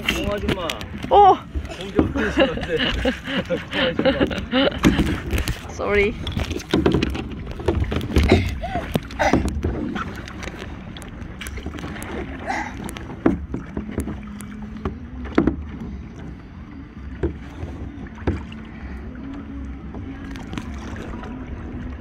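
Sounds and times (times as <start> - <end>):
paddle stroking through water: 0.0 - 22.0
steady low rumble: 0.0 - 22.0.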